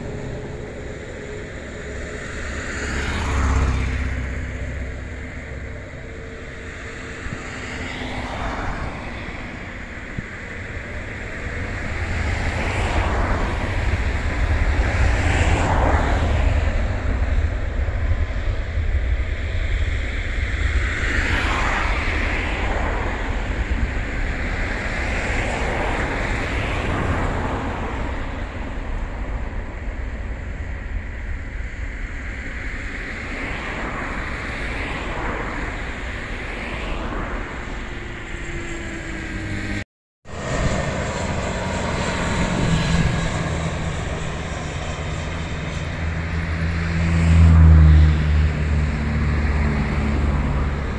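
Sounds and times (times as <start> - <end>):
jet engines roaring: 0.0 - 50.9.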